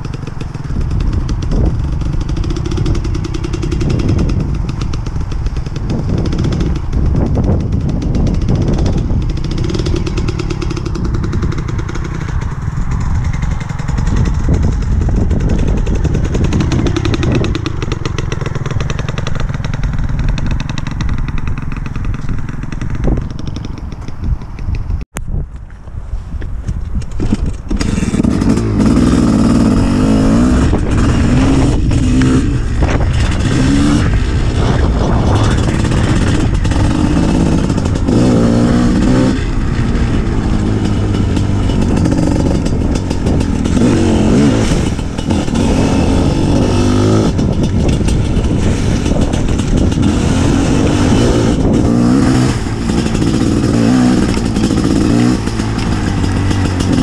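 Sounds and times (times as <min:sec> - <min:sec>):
two-stroke motorcycle revving: 0:00.0 - 0:25.2, 0:27.0 - 0:57.0.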